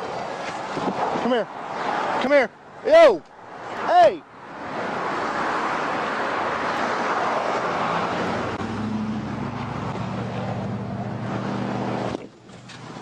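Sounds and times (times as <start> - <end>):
tyre and traffic noise: 0.0 - 13.0.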